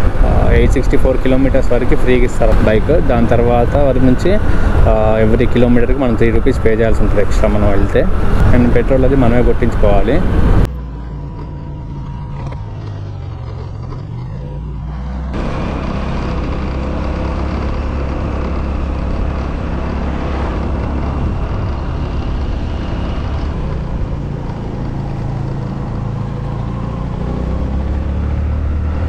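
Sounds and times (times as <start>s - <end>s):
wind rumble on microphone: 0.0s - 26.1s
motorbike engine hum: 0.0s - 29.0s.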